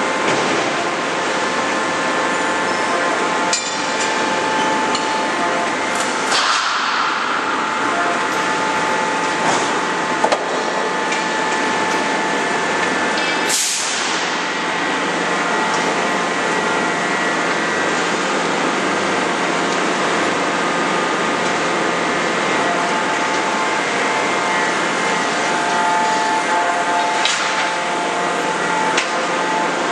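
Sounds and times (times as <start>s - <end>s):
forging press droning: 0.0s - 29.9s.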